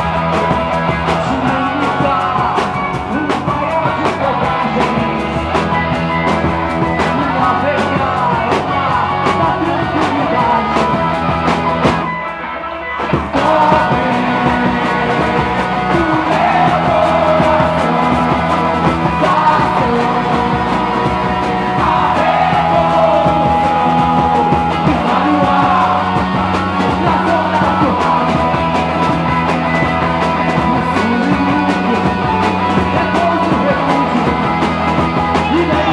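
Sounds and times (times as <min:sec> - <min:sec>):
drums: 0:00.0 - 0:35.9
electric guitar: 0:00.0 - 0:35.9.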